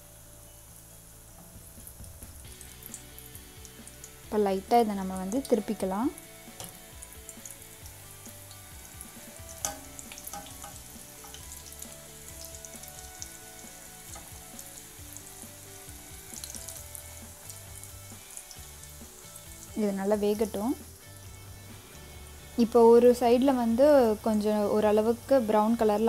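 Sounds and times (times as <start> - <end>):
deep-frying sizzle and crackle: 0.0 - 26.0.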